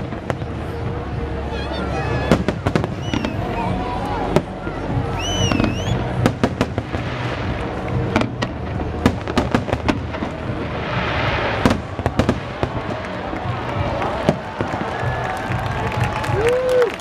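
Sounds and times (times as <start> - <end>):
fireworks crackling hiss: 0.0 - 17.0.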